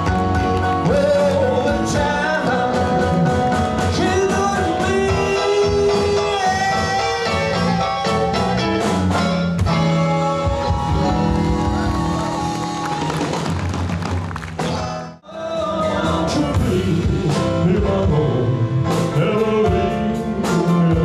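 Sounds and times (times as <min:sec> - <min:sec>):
rock and roll band playing: 0:00.0 - 0:21.0.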